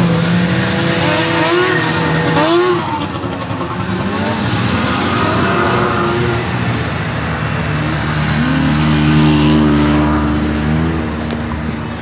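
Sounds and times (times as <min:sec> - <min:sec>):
snowmobile engines passing: 0:00.0 - 0:12.0.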